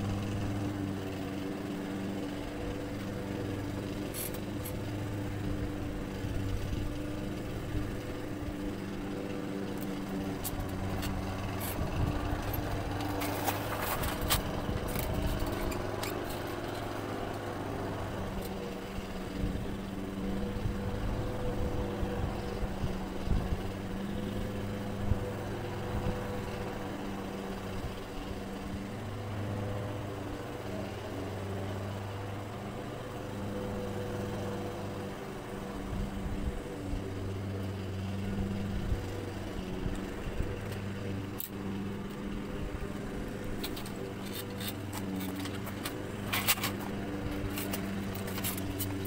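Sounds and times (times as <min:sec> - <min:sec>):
steady motor hum: 0:00.0 - 0:49.0.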